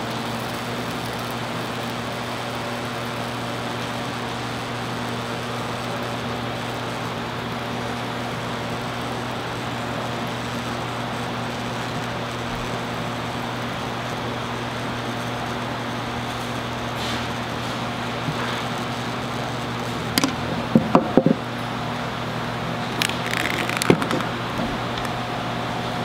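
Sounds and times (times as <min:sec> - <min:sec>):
low electrical hum: 0:00.0 - 0:26.0
steady hiss: 0:00.0 - 0:26.0.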